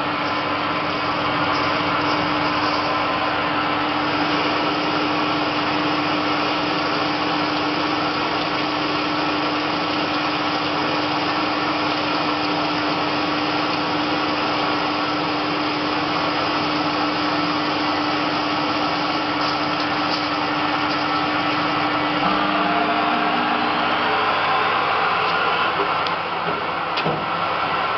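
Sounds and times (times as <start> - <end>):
coolant spray and cutting noise: 0.0 - 27.9
lathe spindle drive low tone: 0.0 - 27.9.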